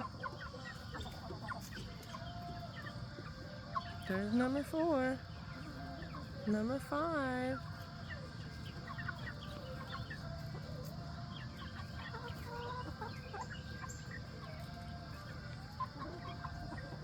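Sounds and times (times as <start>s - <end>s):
chickens clucking and chirping: 0.0s - 17.0s.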